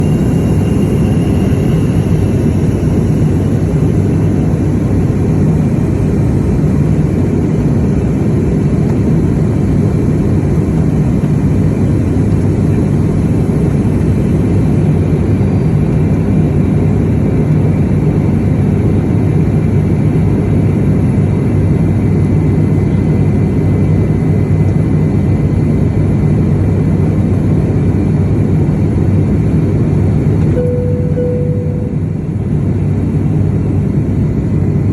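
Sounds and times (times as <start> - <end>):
aircraft cabin engine rumble: 0.0 - 34.9.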